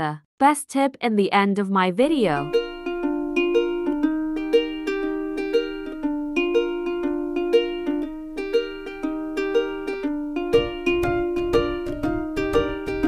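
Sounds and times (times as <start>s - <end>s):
plucked-string melody: 2.3s - 13.0s
low beat: 2.5s - 13.0s.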